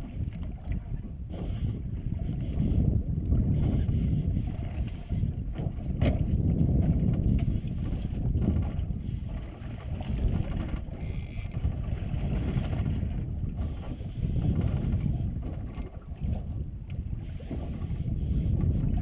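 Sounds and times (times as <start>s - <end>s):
sea washing against boat: 0.0s - 19.0s
wind buffeting microphone: 0.0s - 19.0s.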